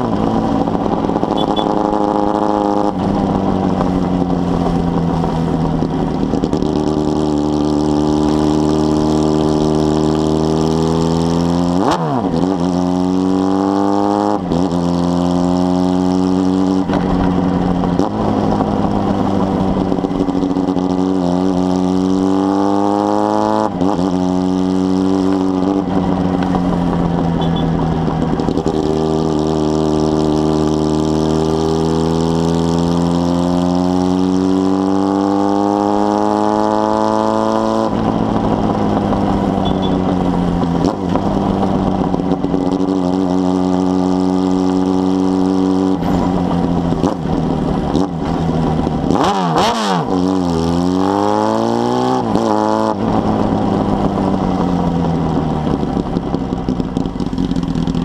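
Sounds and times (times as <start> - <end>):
motorcycle engine shifting gears: 0.0 - 58.0.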